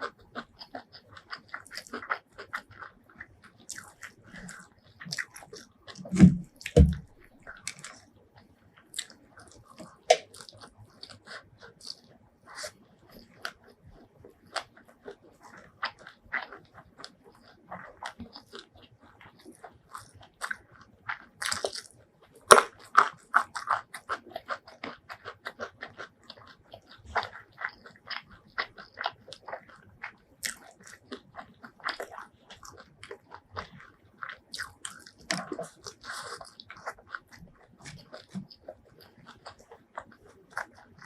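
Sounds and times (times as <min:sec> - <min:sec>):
crunching bites of fried chicken: 0:00.0 - 0:08.2, 0:09.0 - 0:41.0
wet chewing: 0:00.0 - 0:41.0.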